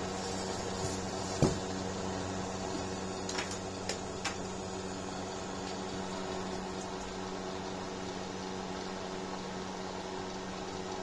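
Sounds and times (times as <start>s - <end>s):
heater fan whirring: 0.0s - 11.0s
low electrical hum: 0.0s - 11.0s.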